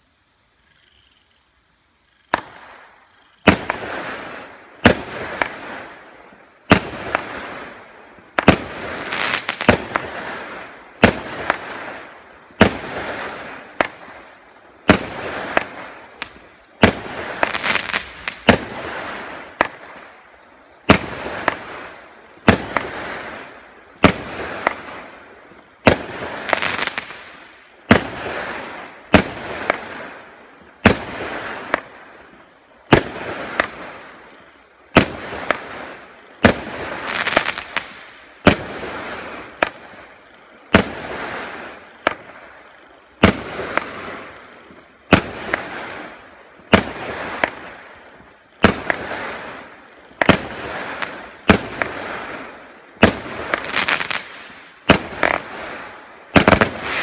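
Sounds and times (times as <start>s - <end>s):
fireworks bangs: 2.3s - 57.0s.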